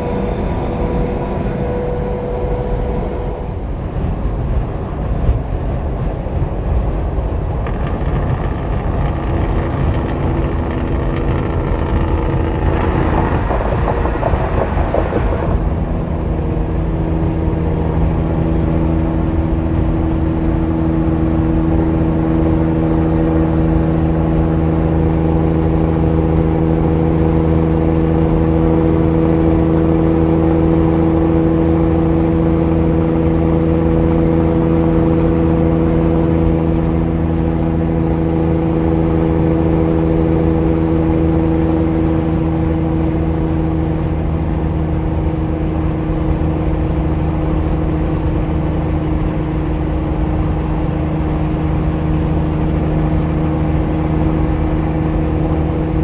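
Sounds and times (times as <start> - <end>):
truck diesel engine droning: 0.0 - 56.0
tyre and road noise: 0.0 - 56.0.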